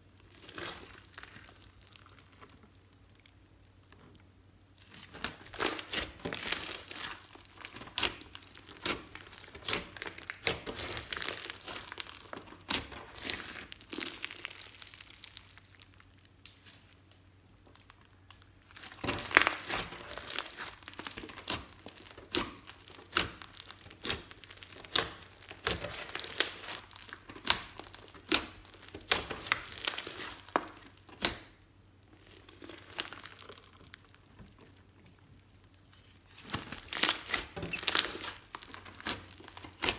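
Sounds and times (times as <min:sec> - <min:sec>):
wet slime crackling and popping: 0:00.0 - 0:39.9.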